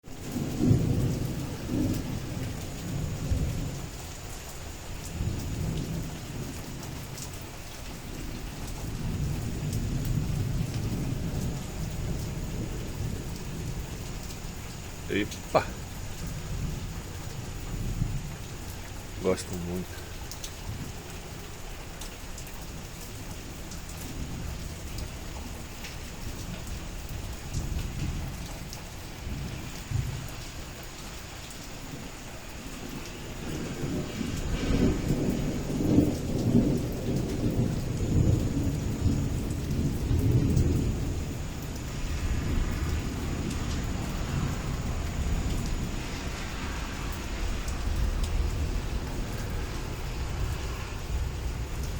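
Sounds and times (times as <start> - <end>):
heavy rain: 0.0 - 51.9
thunder rumbling: 0.1 - 51.9.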